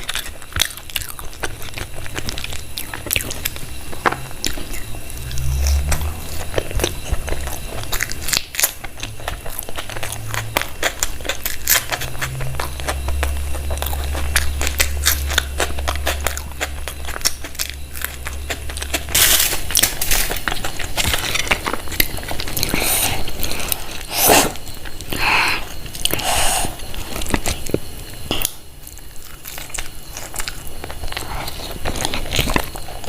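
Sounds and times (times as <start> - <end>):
chewing and mouth smacks: 0.0 - 33.0.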